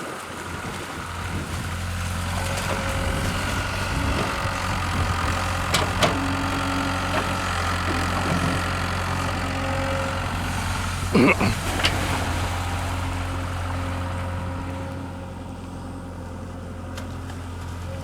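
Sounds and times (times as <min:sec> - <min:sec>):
excavator diesel engine running: 0:00.1 - 0:18.0.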